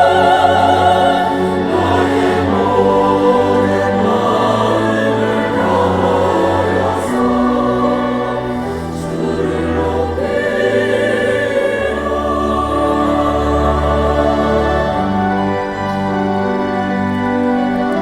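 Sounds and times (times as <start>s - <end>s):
church choir singing: 0.0s - 18.0s.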